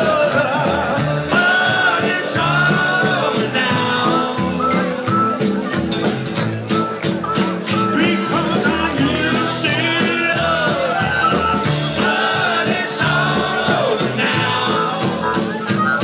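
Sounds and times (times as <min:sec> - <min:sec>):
rock and roll band playing: 0:00.0 - 0:16.0.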